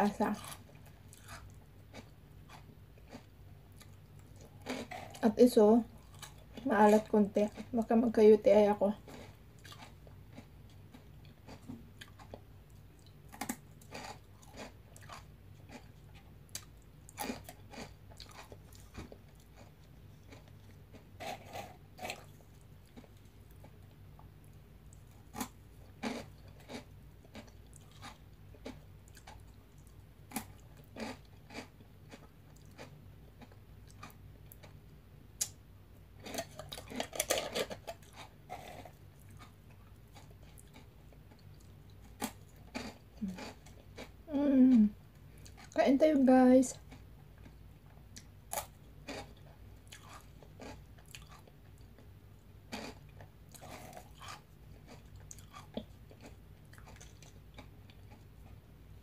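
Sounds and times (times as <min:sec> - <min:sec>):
chewing and crunching snacks: 0:00.0 - 0:07.9, 0:08.9 - 0:35.6, 0:36.2 - 0:45.8, 0:46.7 - 0:58.7.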